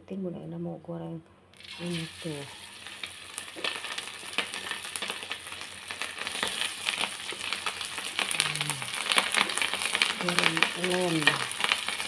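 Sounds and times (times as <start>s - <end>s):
rice cake sizzling in hot oil: 1.6s - 12.0s.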